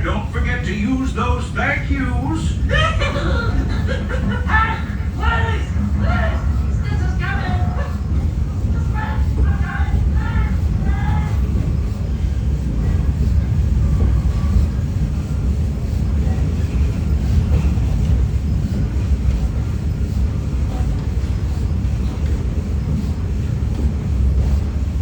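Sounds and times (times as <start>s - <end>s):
steam train rolling on track: 0.0s - 25.0s.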